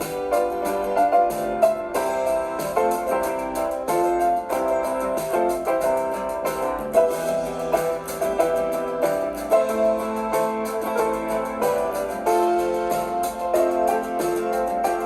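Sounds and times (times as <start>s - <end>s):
piano melody over chords: 0.0s - 15.0s.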